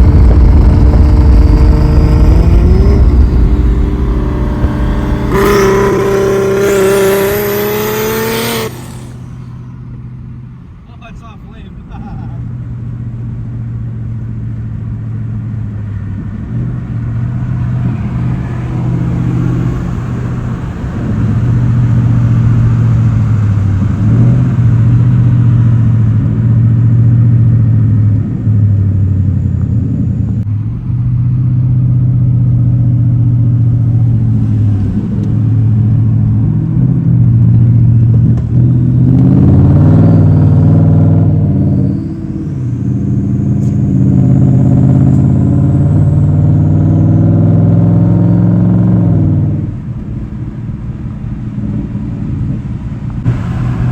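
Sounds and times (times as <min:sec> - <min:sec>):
car engine driving: 0:00.0 - 0:53.9.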